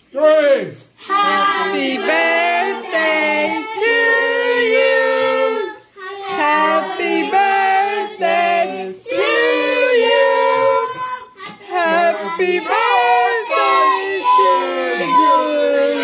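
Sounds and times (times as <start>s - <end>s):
children singing: 1.0s - 16.0s.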